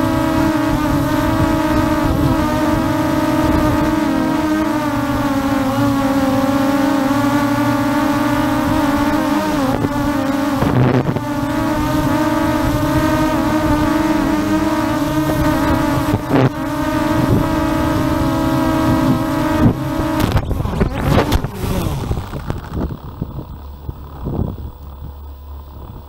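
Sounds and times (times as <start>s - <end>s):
drone striking a flag: 0.0s - 24.4s
drone motors humming: 0.0s - 26.0s
wind gusts: 0.0s - 26.0s.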